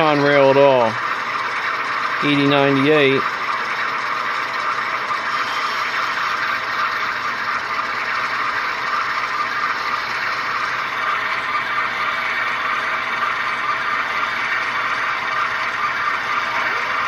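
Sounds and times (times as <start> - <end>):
diesel engine sound from speakers: 0.0 - 17.0
model motors whirring: 0.0 - 17.0.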